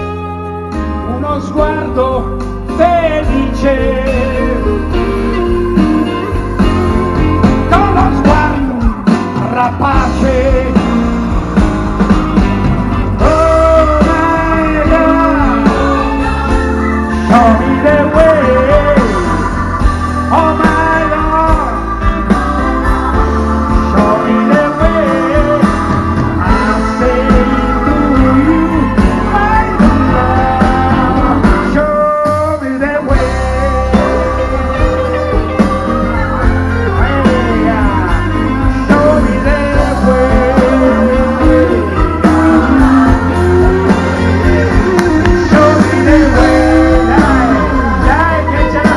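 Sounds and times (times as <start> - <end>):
live band playing blues-rock: 0.0 - 48.9.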